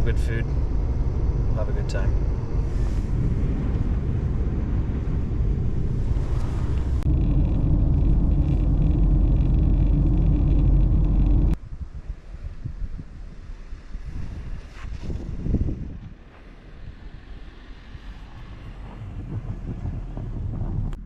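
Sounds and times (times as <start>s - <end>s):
truck engine and road rumble: 0.0s - 11.6s, 13.4s - 21.0s.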